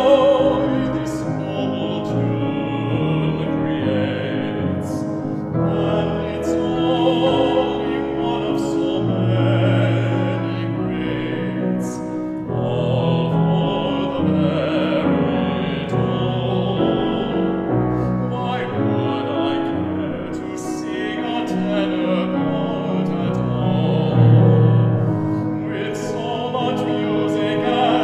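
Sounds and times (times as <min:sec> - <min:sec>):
man singing operatically: 0:00.0 - 0:25.0, 0:25.6 - 0:28.0
piano accompaniment: 0:00.0 - 0:28.0.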